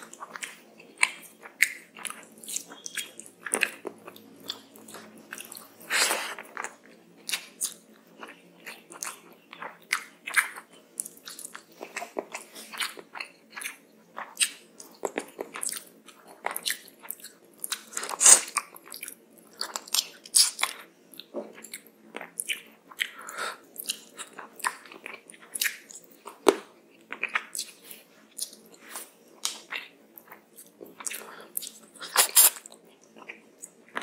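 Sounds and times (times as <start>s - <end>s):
wet chewing and smacking: 0.0s - 34.0s.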